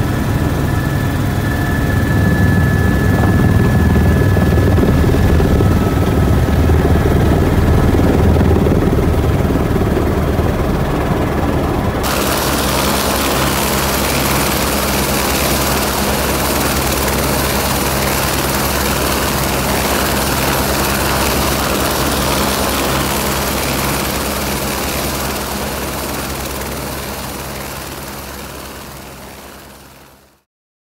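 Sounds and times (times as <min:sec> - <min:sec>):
helicopter cabin noise: 0:00.0 - 0:30.2
helicopter running nearby outdoors: 0:00.0 - 0:30.5.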